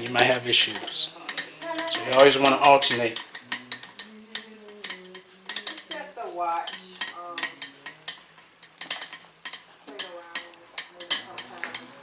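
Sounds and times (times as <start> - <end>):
screwdriver clicking on metal: 0.8 - 12.0.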